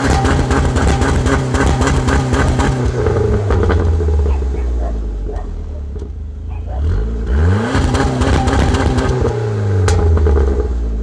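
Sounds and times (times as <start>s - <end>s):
car engine revving: 0.0s - 11.0s
exhaust snap: 0.0s - 11.0s.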